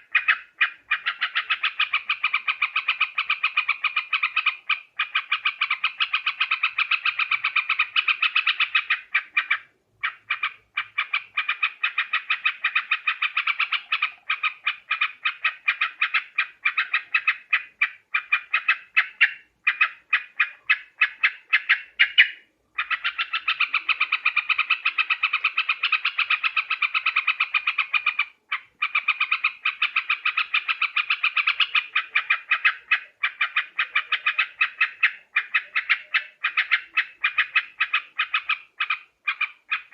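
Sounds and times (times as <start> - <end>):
bird chattering bubbling notes: 0.0 - 39.9.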